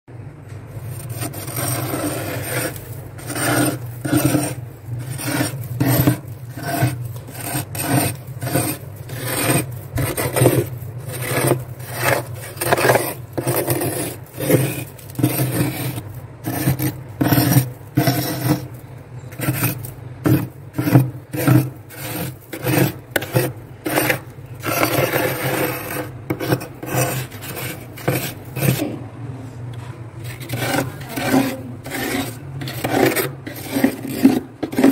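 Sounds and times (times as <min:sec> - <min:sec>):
spoon scraping freezer frost: 0:00.7 - 0:28.9, 0:30.2 - 0:34.9.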